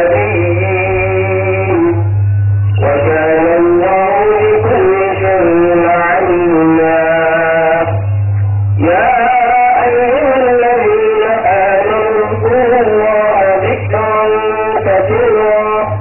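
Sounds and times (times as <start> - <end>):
man chanting: 0.0 - 8.1, 8.7 - 16.0
low hum: 0.0 - 16.0.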